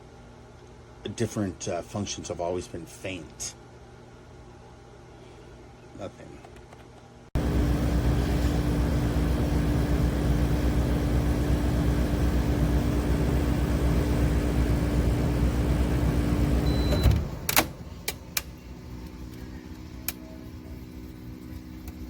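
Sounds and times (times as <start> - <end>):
air conditioner humming and blowing: 0.0 - 22.0.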